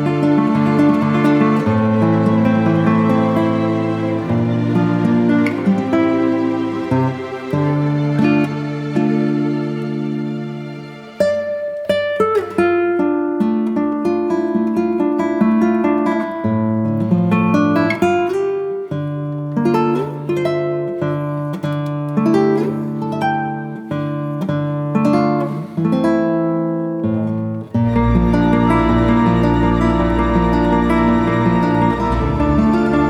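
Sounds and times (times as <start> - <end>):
plucked acoustic guitar music: 0.0 - 33.0.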